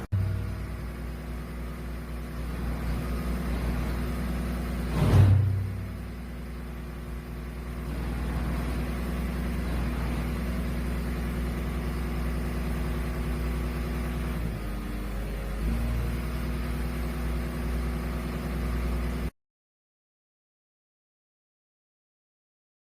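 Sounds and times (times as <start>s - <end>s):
excavator engine and hydraulics drone: 0.0s - 19.3s.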